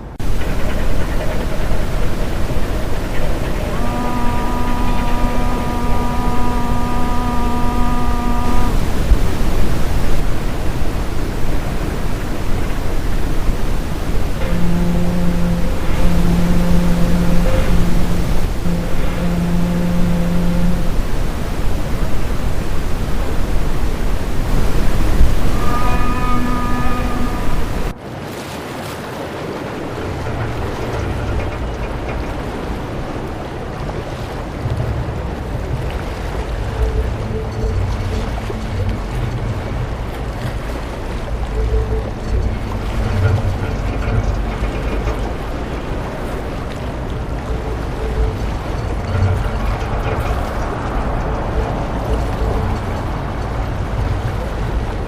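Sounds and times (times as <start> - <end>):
held horn tone: 0.0 - 28.0, 36.4 - 54.5
traffic rumble: 0.0 - 28.0, 29.4 - 55.0.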